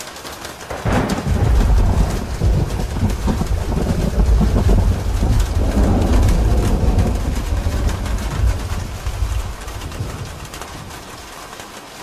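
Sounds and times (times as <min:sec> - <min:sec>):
heavy rain: 0:00.0 - 0:12.0
raindrops pattering on a roof: 0:00.0 - 0:12.0
thunder rumbling: 0:00.6 - 0:11.6.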